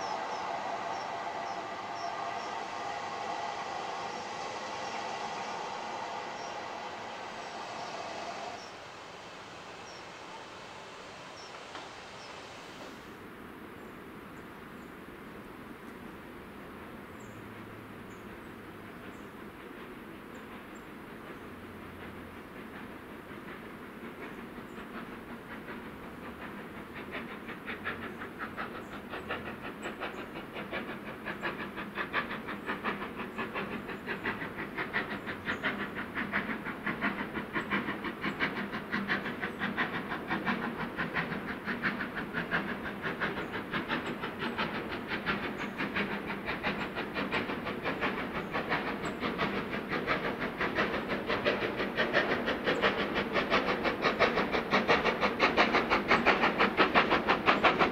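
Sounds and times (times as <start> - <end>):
steam hiss: 0.0 - 13.3, 16.4 - 57.9
steam locomotive exhaust beats: 0.0 - 13.4, 15.6 - 57.9.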